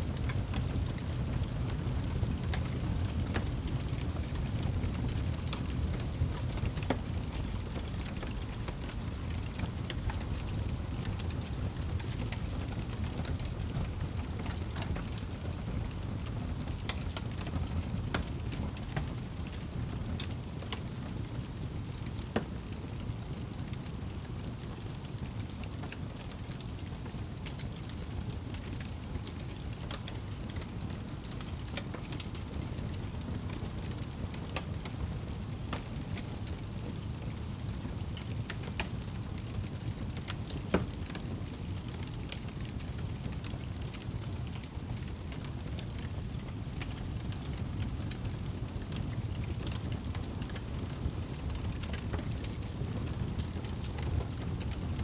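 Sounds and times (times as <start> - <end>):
fire rumbling: 0.0 - 55.0
fire crackling: 0.1 - 55.0.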